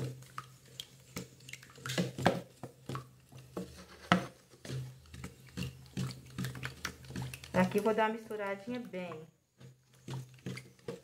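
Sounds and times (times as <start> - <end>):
wooden spoon scraping plastic bucket: 0.0 - 11.0.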